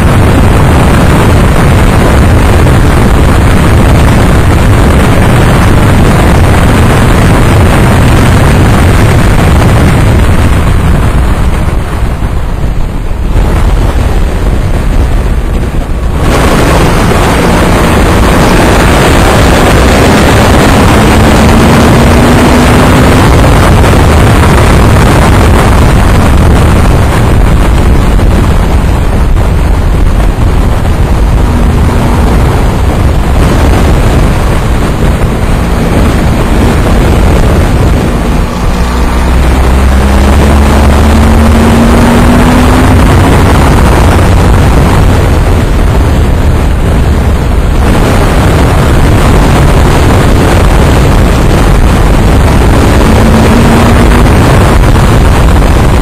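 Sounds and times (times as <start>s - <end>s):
motorcycle engine running: 0.0s - 56.0s
wind rushing on microphone: 0.0s - 56.0s.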